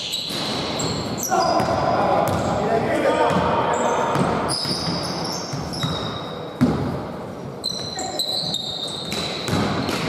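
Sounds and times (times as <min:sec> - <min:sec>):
sneakers squeaking on floor: 0:00.0 - 0:10.0
basketball bouncing on wooden court: 0:00.2 - 0:02.6, 0:03.3 - 0:07.0, 0:07.7 - 0:10.0.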